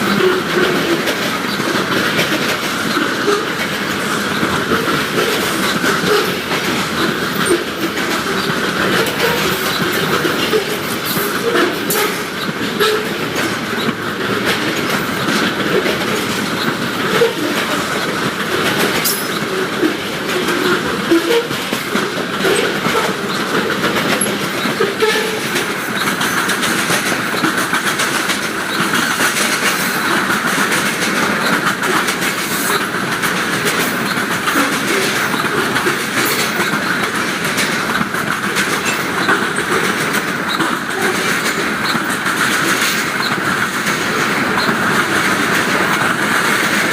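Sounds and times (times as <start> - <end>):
train wheels rumbling on rail: 0.0 - 46.9
wheels clicking over rail joints: 0.0 - 46.9.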